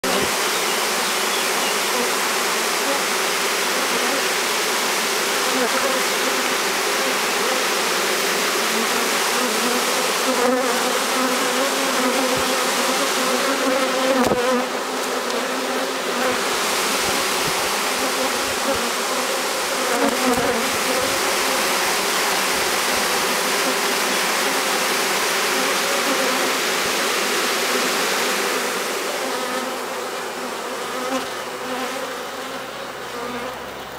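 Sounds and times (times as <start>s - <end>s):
dense hum of bees: 0.0s - 33.9s.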